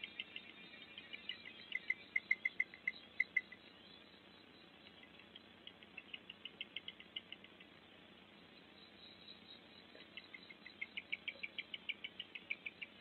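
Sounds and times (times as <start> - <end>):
forest ambience: 0.0 - 13.0.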